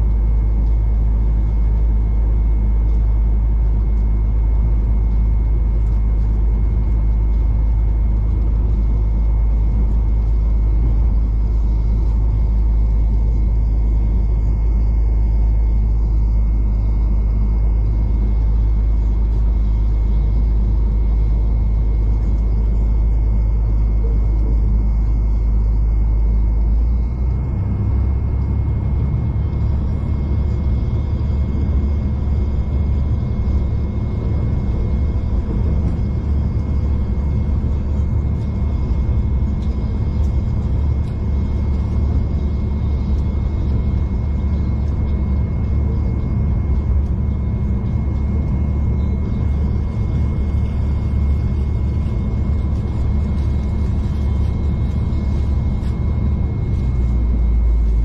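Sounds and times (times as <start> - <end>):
faint high whine: 0.0 - 58.0
train interior rumble: 0.0 - 58.0.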